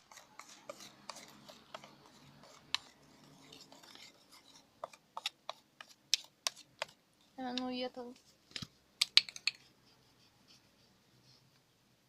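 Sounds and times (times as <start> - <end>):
slime being stirred in a bowl: 0.0 - 9.8.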